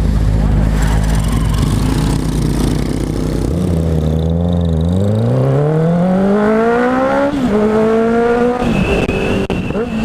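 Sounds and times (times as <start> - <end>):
motorcycle engine idling and accelerating: 0.0 - 10.0.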